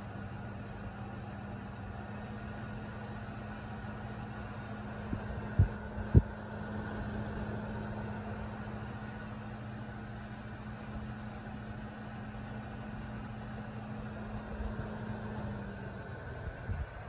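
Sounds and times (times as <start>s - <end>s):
window fan running: 0.0s - 17.0s.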